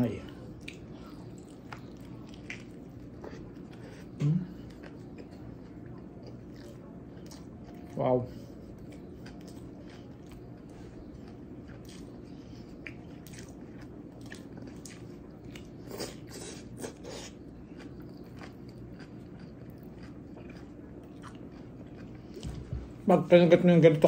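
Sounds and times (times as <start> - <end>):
man chewing with wet clicks: 0.0 - 22.8
steady low hum: 0.0 - 24.0.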